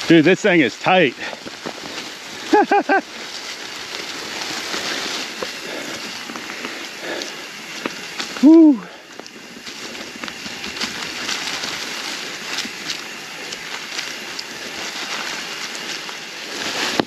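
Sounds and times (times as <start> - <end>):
bike tyres rolling over dry leaves: 0.0 - 17.0.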